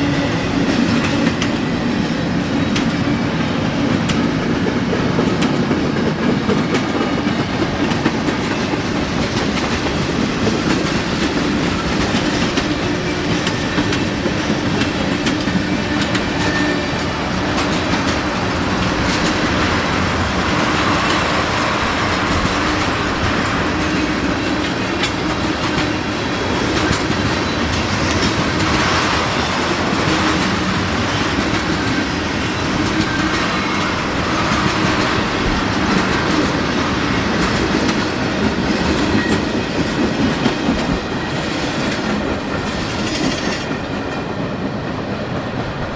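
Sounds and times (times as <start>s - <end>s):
train wheels on rails: 0.0s - 45.9s
wheels clicking over rail joints: 0.1s - 45.9s.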